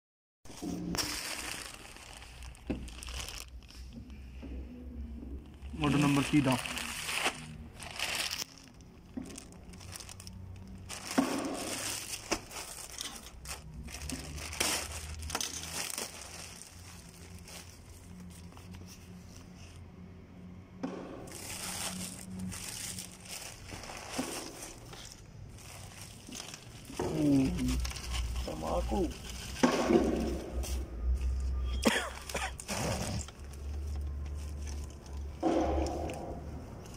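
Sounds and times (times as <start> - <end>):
plastic mailer bag crinkling: 0.5 - 4.0, 5.4 - 19.1, 21.3 - 30.3, 31.9 - 36.9.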